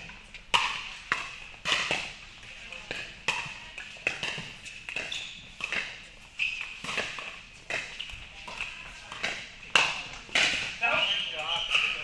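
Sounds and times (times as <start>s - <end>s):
paddles popping against balls: 0.0s - 2.2s, 2.8s - 10.8s.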